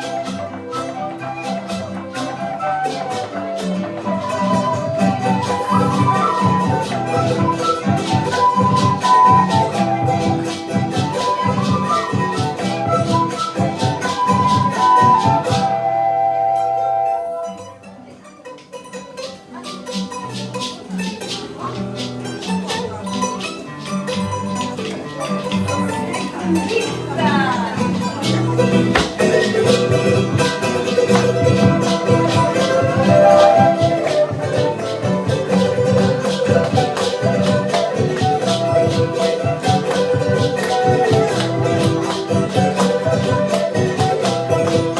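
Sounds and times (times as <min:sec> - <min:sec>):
charango strumming: 0:00.0 - 0:44.9
sustained folk melody: 0:00.0 - 0:44.9.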